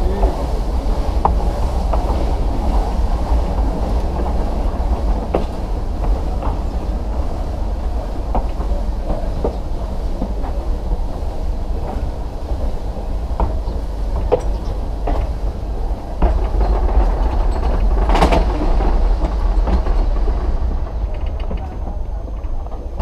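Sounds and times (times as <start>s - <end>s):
train rumbling: 0.0s - 23.0s
wheels clicking over rail joints: 0.0s - 23.0s.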